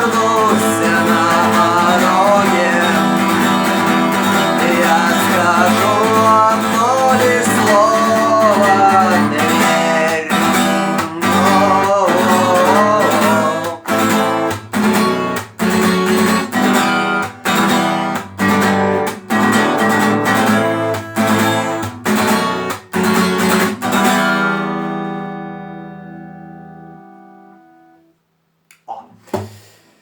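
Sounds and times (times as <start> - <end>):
acoustic guitar strumming: 0.0 - 28.1.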